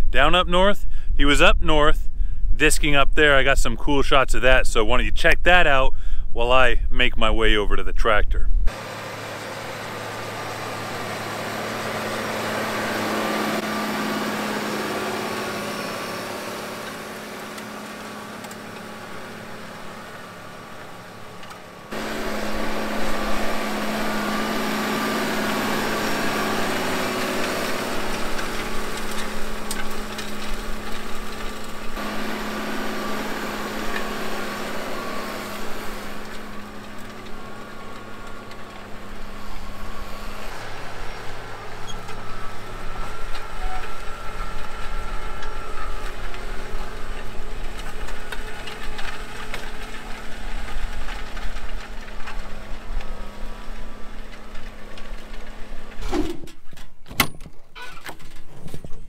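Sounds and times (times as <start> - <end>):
disc crackling through soil: 8.7 - 59.0
tractor diesel engine: 8.7 - 59.0.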